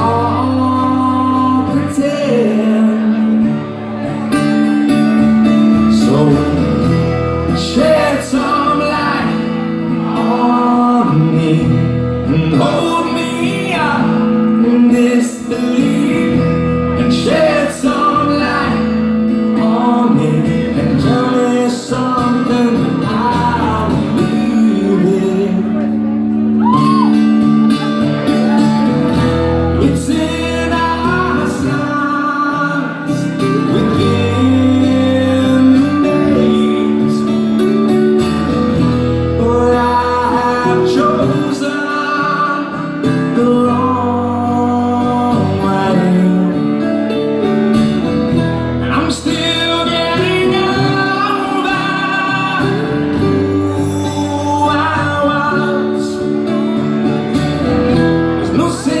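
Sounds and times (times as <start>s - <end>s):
person singing: 0.0s - 47.6s, 48.8s - 59.0s
guitar: 0.0s - 59.0s.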